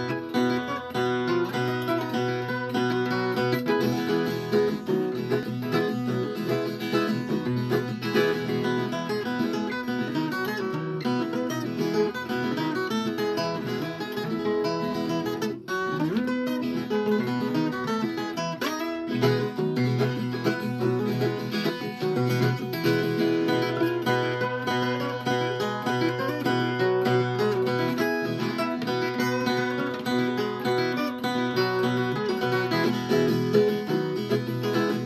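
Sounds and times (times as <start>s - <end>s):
folk guitar picking a melody: 0.0s - 35.0s.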